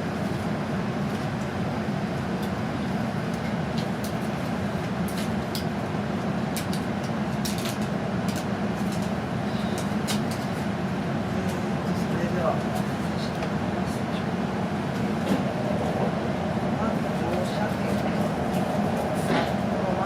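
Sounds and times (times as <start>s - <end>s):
train interior low rumble: 0.0s - 20.0s.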